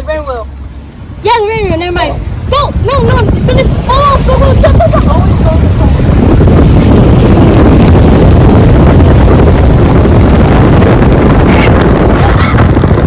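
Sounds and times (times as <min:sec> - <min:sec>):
truck engine low rumble: 0:00.0 - 0:13.0
wind buffeting microphone: 0:00.0 - 0:13.0.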